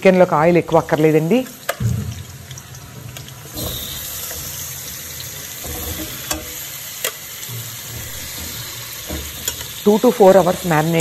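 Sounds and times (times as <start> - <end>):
chicken sizzling in hot oil: 0.1 - 11.0.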